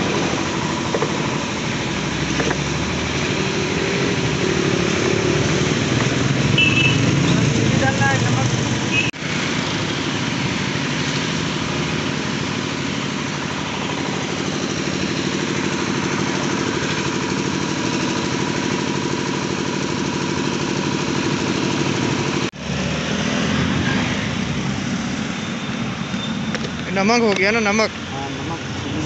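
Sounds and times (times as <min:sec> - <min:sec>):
engine idling: 0:00.0 - 0:22.6, 0:24.4 - 0:29.0.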